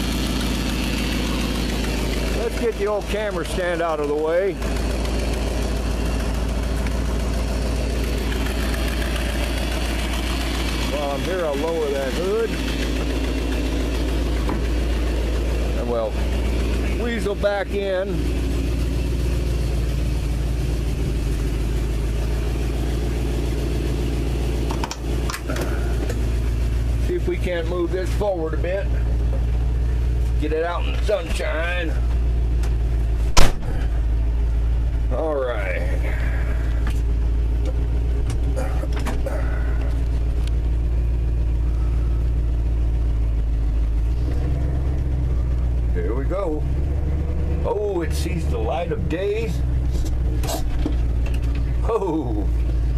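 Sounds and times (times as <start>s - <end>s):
truck engine idling: 0.0s - 52.9s.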